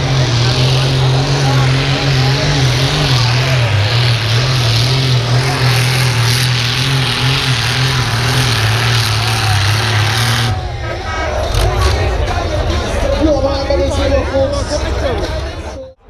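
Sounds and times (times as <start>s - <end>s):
tractor engine at high revs: 0.0s - 16.0s.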